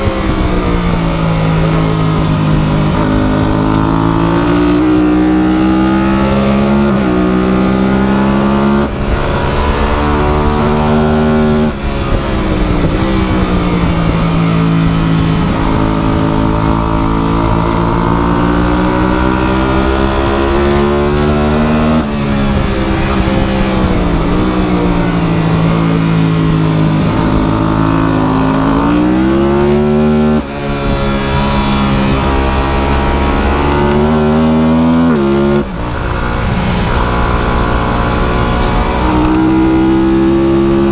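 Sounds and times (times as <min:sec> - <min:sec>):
vehicle engine running hard: 0:00.0 - 0:40.9.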